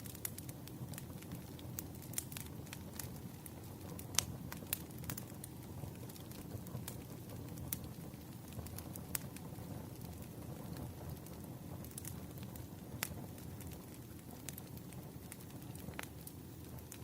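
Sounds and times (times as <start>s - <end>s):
firewood burning and crackling: 0.0s - 17.0s.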